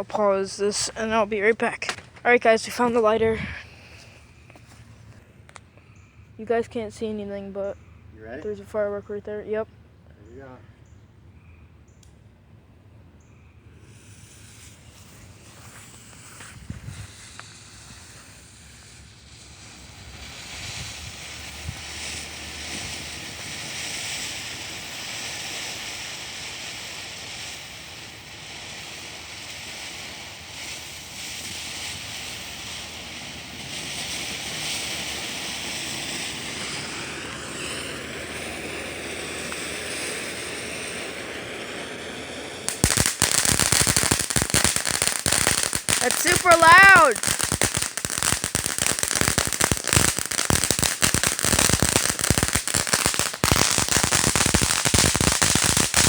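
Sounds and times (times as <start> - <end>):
firework hissing sparks: 0.0 - 5.7, 13.7 - 56.0
firework crackling: 0.0 - 5.8, 13.7 - 56.0.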